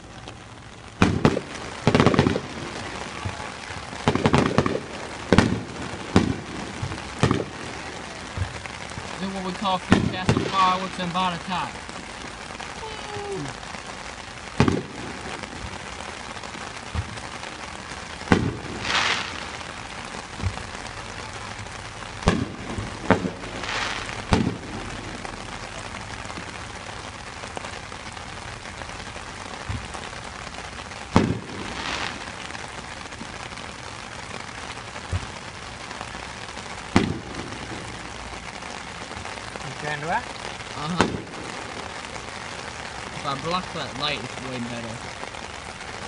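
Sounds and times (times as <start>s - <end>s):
firework crackle: 0.0s - 46.0s
rain hissing: 0.0s - 46.0s
firework booms: 1.0s - 13.5s, 14.1s - 30.3s, 31.0s - 45.2s.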